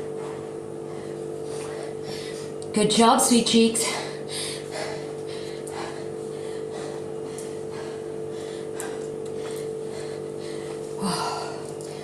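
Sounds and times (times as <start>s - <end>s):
steady low hum: 0.0s - 12.0s
person breathing hard: 0.2s - 2.6s, 3.8s - 12.0s.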